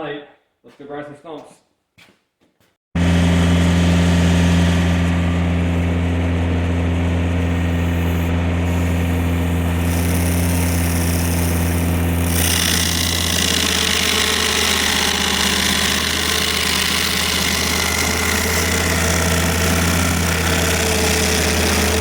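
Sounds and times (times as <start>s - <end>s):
tractor engine running: 3.0s - 22.0s.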